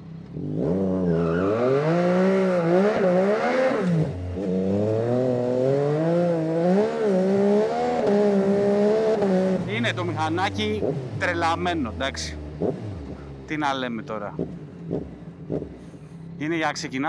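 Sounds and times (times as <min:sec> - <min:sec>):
motorcycle engine revving through gears: 0:00.0 - 0:16.1.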